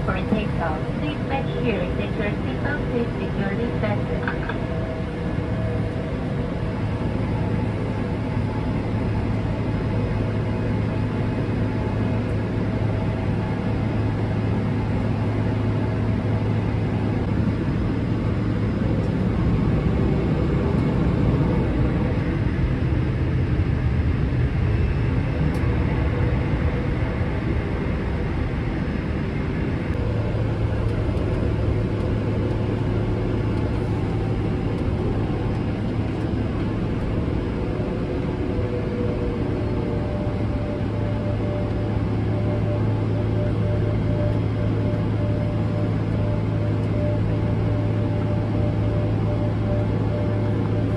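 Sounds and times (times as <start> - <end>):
jet engines at high power: 0.0 - 50.9
low cabin rumble: 0.0 - 50.9.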